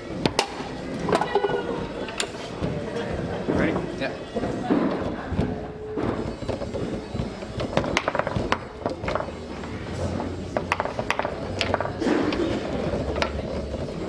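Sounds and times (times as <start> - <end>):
foosball ball clacking: 0.0 - 14.0
foosball rods rattling: 0.0 - 14.0.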